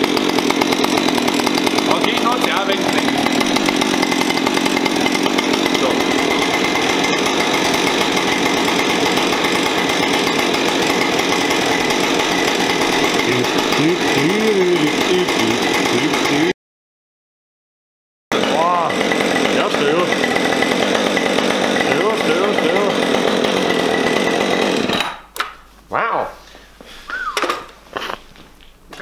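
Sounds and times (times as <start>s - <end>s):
chainsaw idling: 0.0s - 16.6s, 18.3s - 25.3s.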